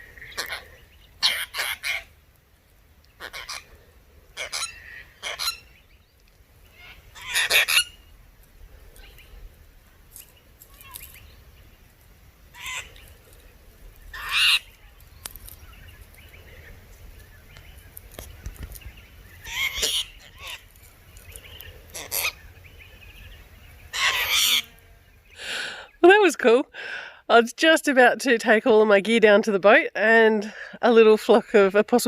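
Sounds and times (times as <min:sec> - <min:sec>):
birds calling: 0:00.0 - 0:26.2.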